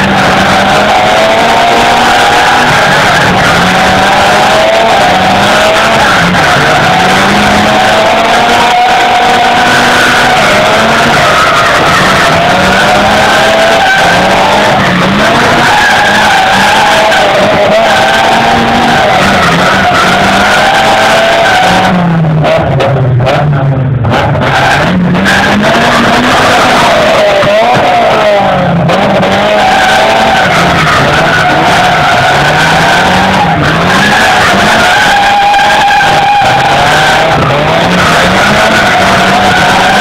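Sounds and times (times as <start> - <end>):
car engine revving: 0.0 - 40.0
tyres skidding on tarmac: 0.0 - 40.0.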